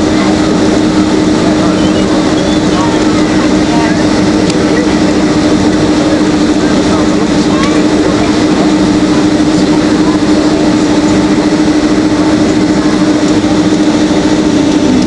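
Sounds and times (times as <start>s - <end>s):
jet engine and airflow rush: 0.0s - 15.0s
steady cabin hum: 0.0s - 15.0s.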